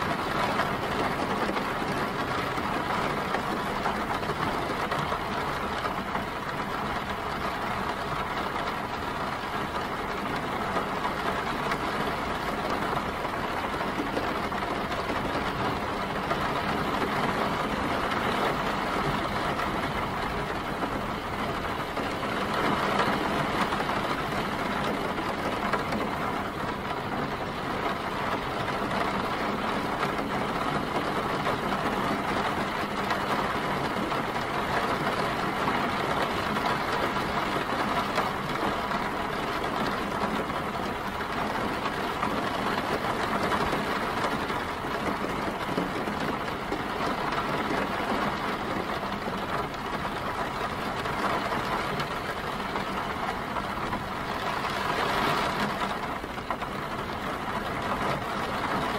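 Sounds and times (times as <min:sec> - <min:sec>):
steady rain: 0:00.0 - 0:58.9
street traffic: 0:00.0 - 0:58.9.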